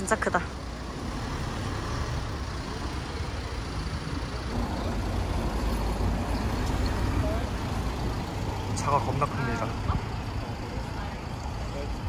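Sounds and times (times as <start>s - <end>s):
minibus engine rumbling past: 0.0s - 12.0s.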